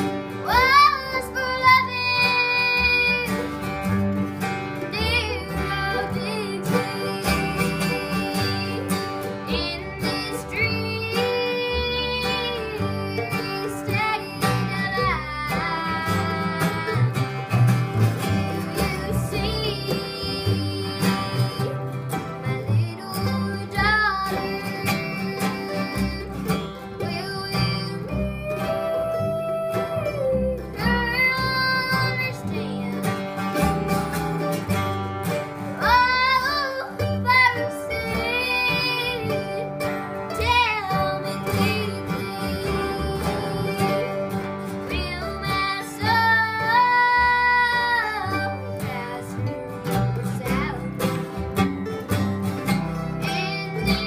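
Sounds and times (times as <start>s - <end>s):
girl singing: 0.0s - 3.7s, 4.8s - 34.0s, 35.7s - 51.3s, 52.9s - 54.0s
acoustic string band playing: 0.0s - 54.0s.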